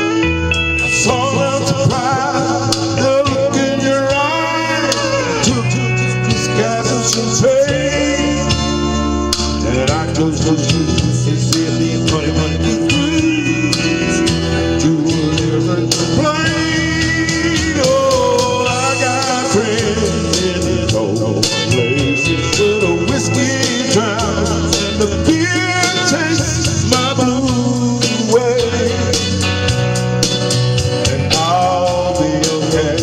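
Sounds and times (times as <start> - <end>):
man singing: 0.0 - 30.1, 30.8 - 33.0
guitar and bass band: 0.0 - 33.0.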